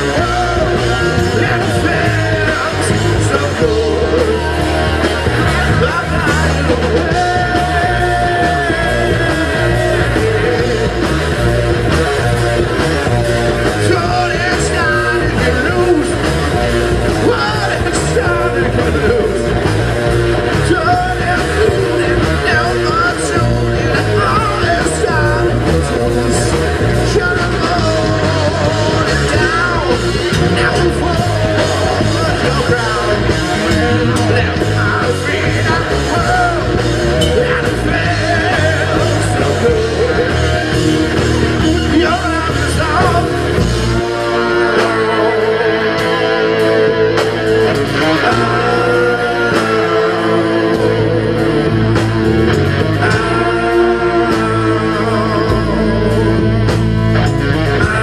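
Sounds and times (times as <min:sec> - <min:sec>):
person shouting singing: 0:00.0 - 0:19.8, 0:20.4 - 0:51.8, 0:52.8 - 0:56.6
electric guitar: 0:00.0 - 0:58.0
rock band playing live: 0:00.0 - 0:58.0.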